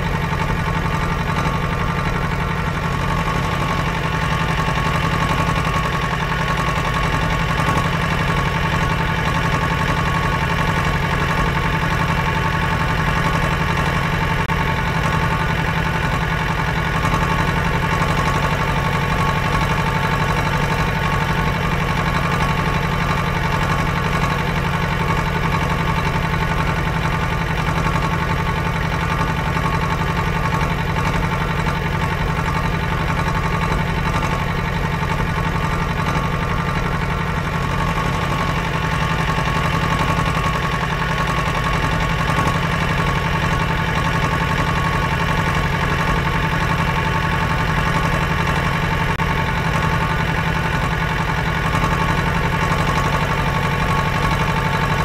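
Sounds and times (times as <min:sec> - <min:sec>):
engine droning steadily: 0:00.0 - 0:55.0.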